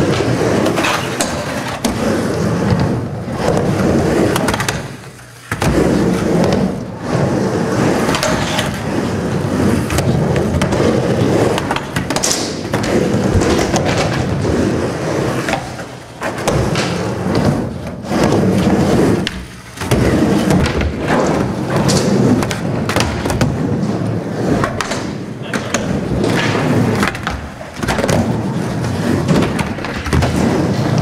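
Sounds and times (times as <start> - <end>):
skateboard wheels rolling on wood: 0.0 - 31.0.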